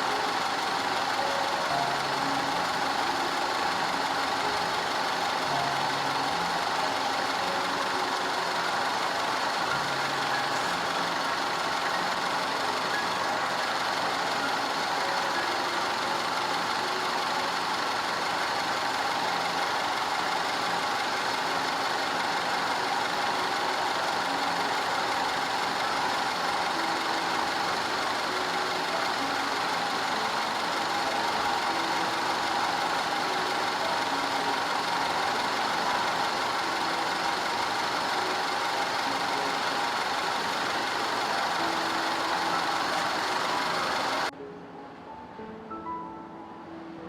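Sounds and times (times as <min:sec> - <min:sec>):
car engine idling: 0:00.0 - 0:44.3.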